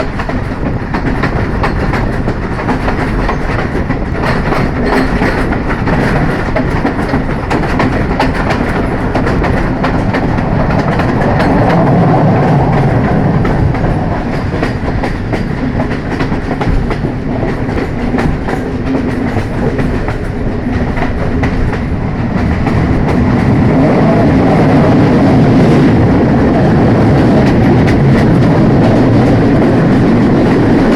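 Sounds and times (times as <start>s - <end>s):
train rumbling on track: 0.0s - 30.9s
wheels clacking over rail joints: 0.0s - 30.9s.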